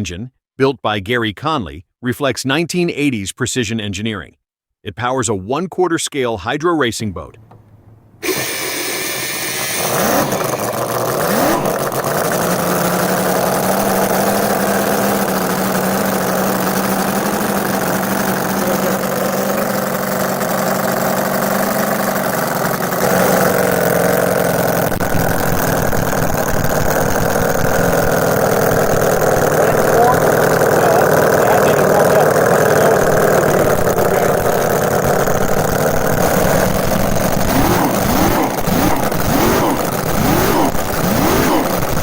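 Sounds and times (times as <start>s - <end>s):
model engine starting and idling: 7.2s - 42.0s.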